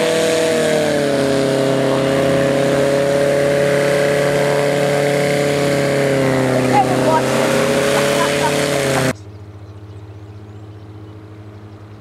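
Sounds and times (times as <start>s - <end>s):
small plane engine and propeller: 0.0s - 12.0s.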